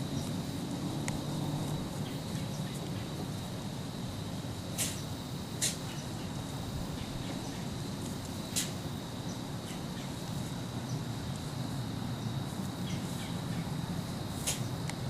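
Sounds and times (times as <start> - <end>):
outdoor background: 0.0 - 15.0.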